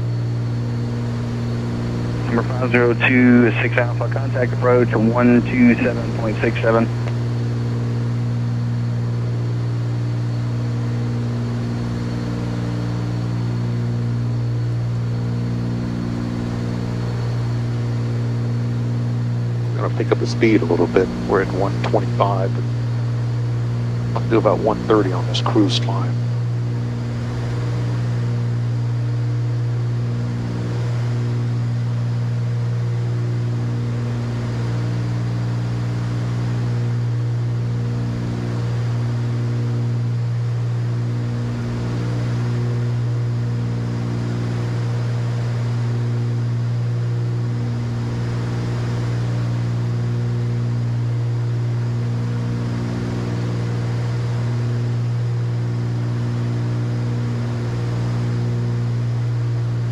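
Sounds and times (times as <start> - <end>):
propeller plane engines droning: 0.0 - 59.9.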